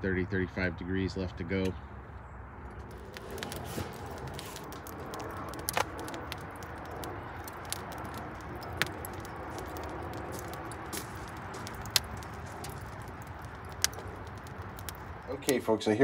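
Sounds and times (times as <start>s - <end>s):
wood fire crackling: 2.5s - 16.0s
fire popping loudly: 2.6s - 16.0s.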